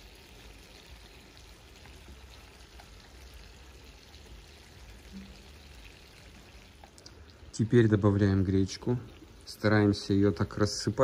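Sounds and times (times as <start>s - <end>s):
broth simmering with small pops: 0.0s - 11.0s.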